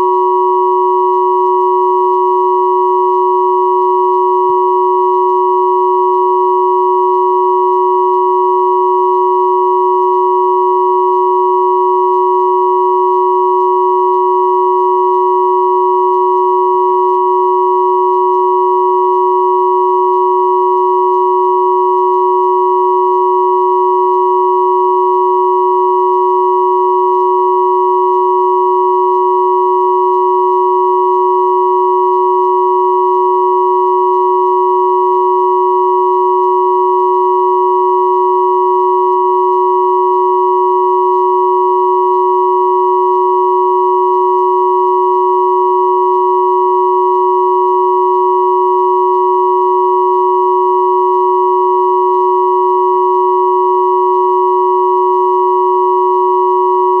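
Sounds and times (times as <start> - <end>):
electronic sine tone drone: 0.0 - 57.0.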